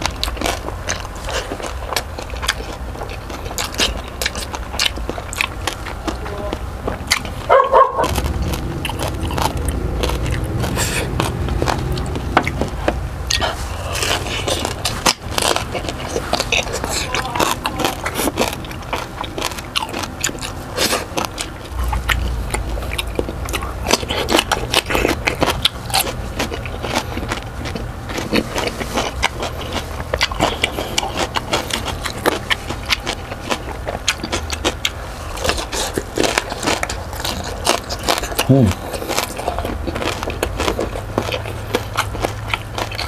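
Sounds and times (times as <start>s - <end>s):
crispy pork crunching: 0.0s - 43.0s
wet chewing: 0.0s - 43.0s.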